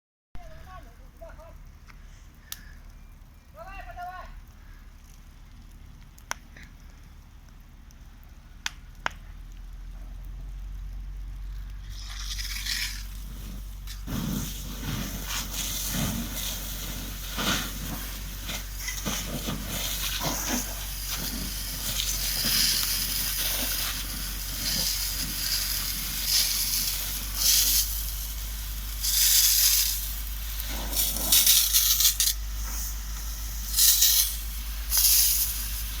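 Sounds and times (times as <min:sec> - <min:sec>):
forest fire hissing and crackling: 0:00.4 - 0:36.0.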